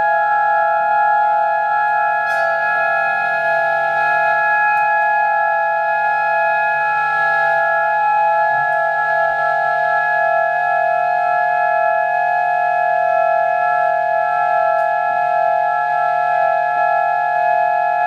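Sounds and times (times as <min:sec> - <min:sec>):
clarinet drone with electronics: 0:00.0 - 0:18.0.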